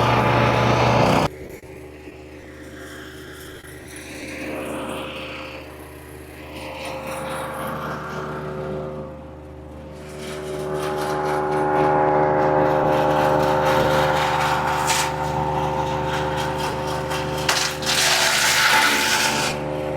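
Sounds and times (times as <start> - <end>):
engine running: 0.0 - 19.9.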